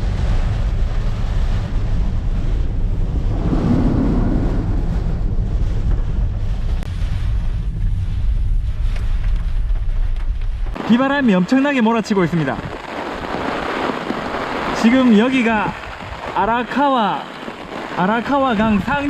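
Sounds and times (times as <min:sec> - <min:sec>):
rain: 0:00.0 - 0:03.6, 0:05.4 - 0:19.0
wind buffeting microphone: 0:00.0 - 0:11.5, 0:12.3 - 0:19.0.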